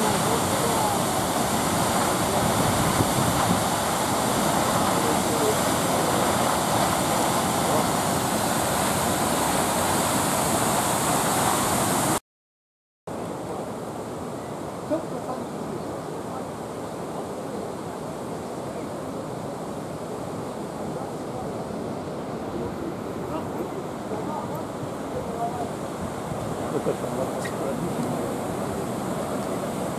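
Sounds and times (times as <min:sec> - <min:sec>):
river running over rapids: 0:00.0 - 0:12.2, 0:13.1 - 0:29.9
waterfall rushing: 0:00.0 - 0:12.2, 0:13.2 - 0:29.9.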